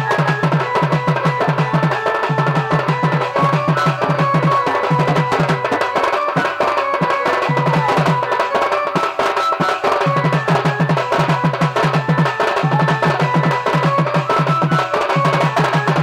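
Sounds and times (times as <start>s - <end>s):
barrel drum played by hand: 0.0s - 16.0s
held melody line: 0.0s - 16.0s.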